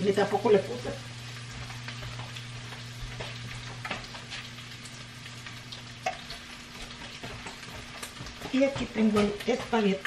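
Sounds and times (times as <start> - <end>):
beef sizzling in a pan: 0.0 - 10.0.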